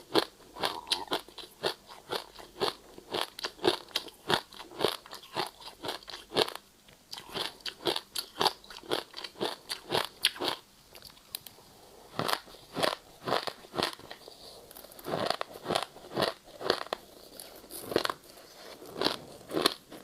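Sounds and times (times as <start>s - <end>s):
ice being chewed: 0.2s - 11.2s, 12.2s - 20.0s.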